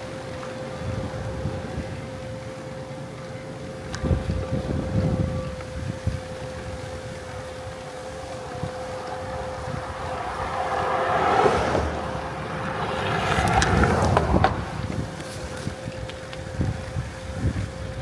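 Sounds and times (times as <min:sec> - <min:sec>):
car road and wind noise: 0:00.0 - 0:18.0
faint whine: 0:00.0 - 0:18.0.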